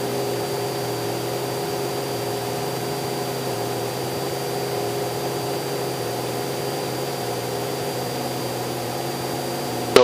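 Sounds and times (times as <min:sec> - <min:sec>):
light aircraft engine drone: 0:00.0 - 0:10.0.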